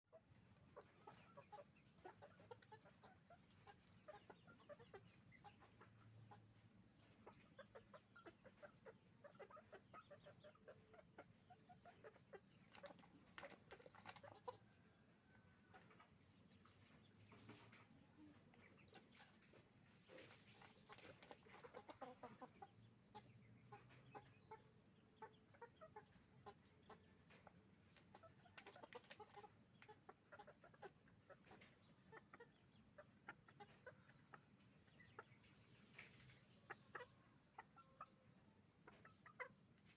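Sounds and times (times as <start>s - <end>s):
chickens clucking: 0.1s - 39.9s.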